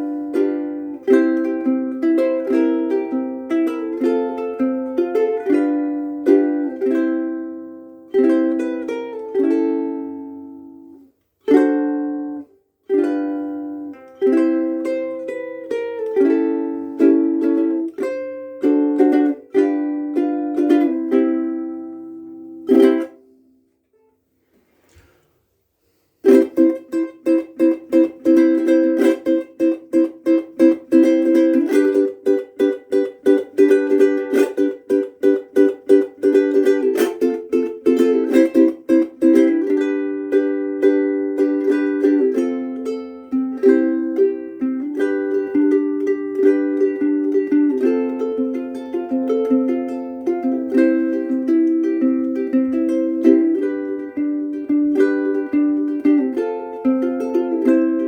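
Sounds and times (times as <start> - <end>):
fast ukulele strumming: 0.0 - 23.2, 26.2 - 58.0
ukulele picked notes and chords: 0.0 - 24.1, 25.8 - 58.0.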